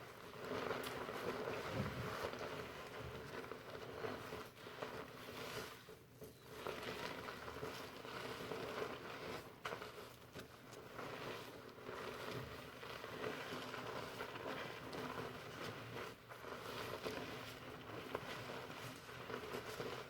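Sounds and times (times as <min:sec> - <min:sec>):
shampoo lather rustling: 0:00.0 - 0:20.0.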